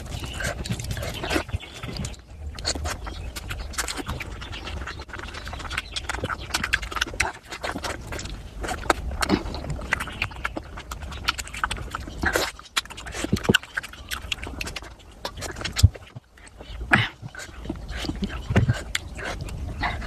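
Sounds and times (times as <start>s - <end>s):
low steady hum: 0.0s - 20.0s
wet chewing and lip smacking: 0.0s - 20.0s.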